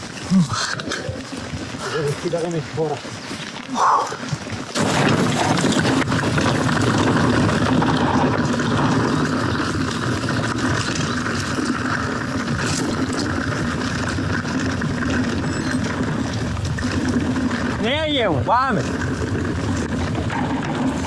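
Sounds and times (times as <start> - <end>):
bike tyres rolling over dirt: 0.0 - 21.0
wind noise on microphone: 4.1 - 21.0.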